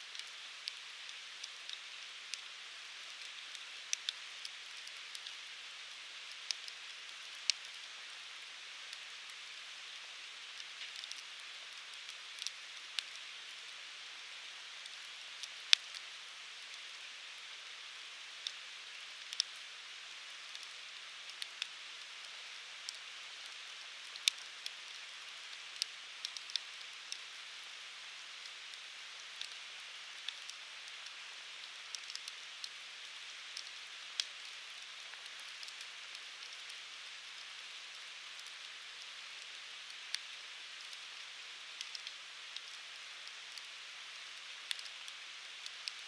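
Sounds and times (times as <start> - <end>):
fire crackling and popping: 0.1 - 5.5, 6.2 - 13.8, 14.8 - 17.1, 18.0 - 46.0.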